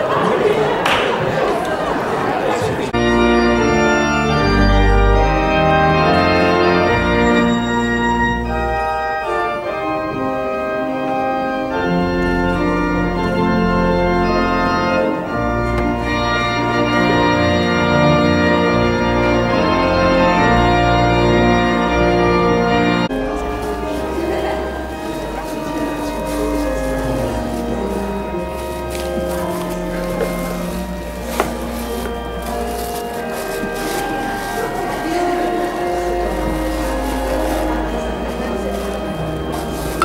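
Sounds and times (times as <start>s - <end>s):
organ chords: 1.7s - 40.0s
organ bass notes: 2.9s - 40.0s.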